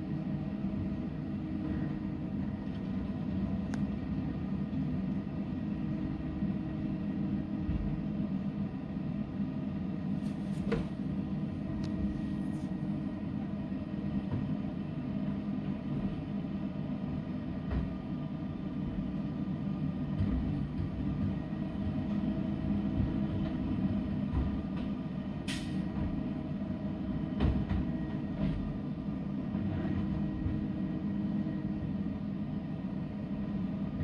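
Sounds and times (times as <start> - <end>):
truck engine and hydraulic pump: 0.0 - 34.0.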